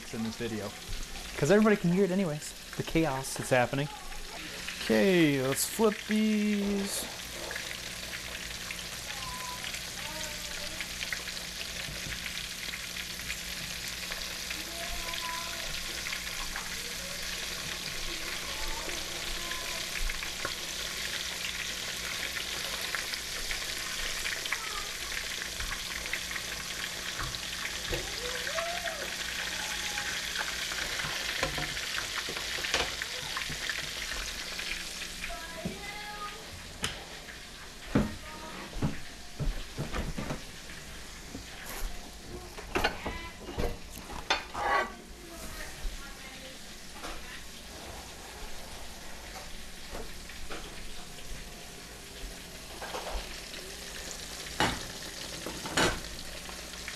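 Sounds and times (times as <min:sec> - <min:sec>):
fish fillets sizzling in frying: 0:00.0 - 0:56.9.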